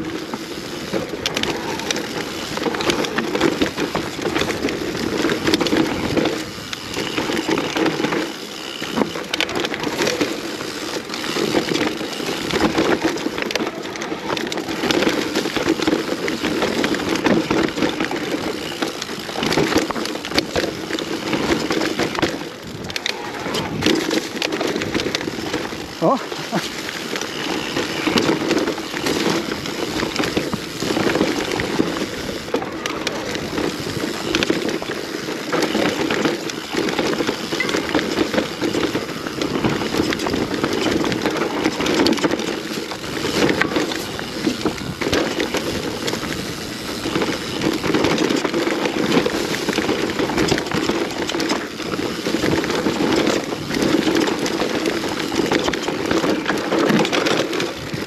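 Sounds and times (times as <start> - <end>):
bike chain and frame clattering: 0.0 - 58.0
bike tyres rumbling over dirt: 0.0 - 58.0.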